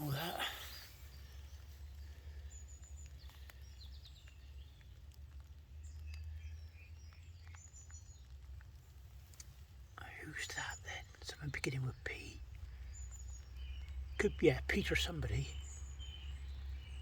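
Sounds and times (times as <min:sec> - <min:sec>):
small birds chirping: 0:00.0 - 0:17.0
light ticks: 0:01.1 - 0:16.0.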